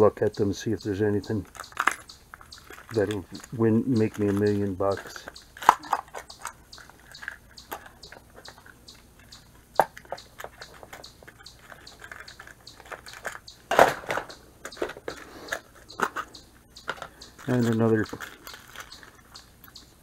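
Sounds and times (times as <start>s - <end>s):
plastic trays and metal lures rattling: 1.4s - 19.7s.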